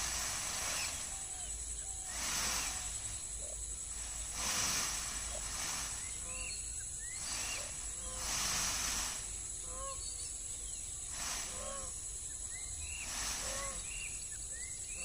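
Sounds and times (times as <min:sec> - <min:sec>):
faint bird chirps: 0:00.0 - 0:15.0
insect chorus high-pitched whine: 0:00.0 - 0:15.0.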